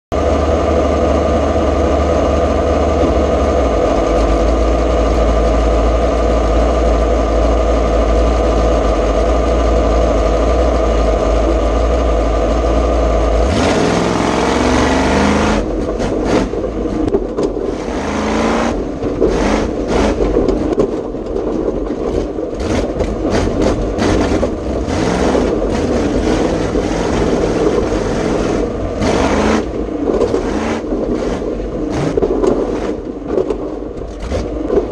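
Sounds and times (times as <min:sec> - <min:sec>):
engine revving: 0:00.1 - 0:21.0, 0:22.1 - 0:33.5, 0:34.1 - 0:34.9
chassis banging and rattling: 0:00.4 - 0:34.9.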